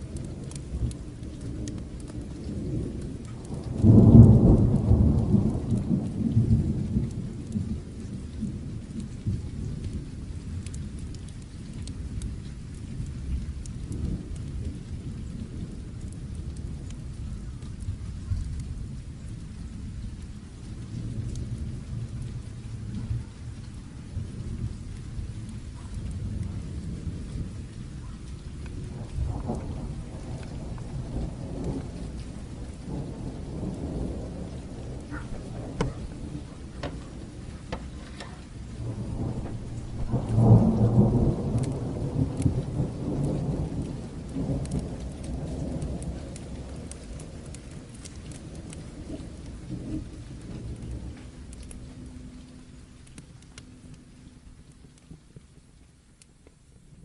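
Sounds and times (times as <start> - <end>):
low rolling thunder: 0.0 - 56.2
steady rain: 0.0 - 57.0
wood fire crackling: 0.0 - 57.0.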